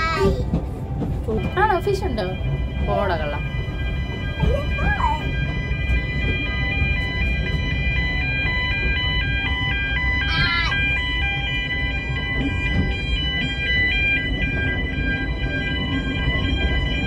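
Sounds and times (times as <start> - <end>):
train carriage rumble: 0.0 - 17.0.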